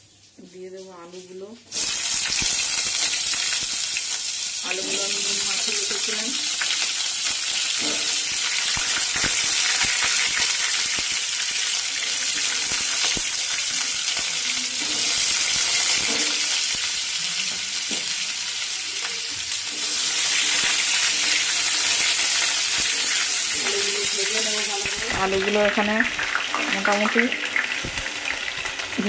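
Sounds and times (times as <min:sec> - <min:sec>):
potatoes sizzling in oil: 0:00.0 - 0:29.0.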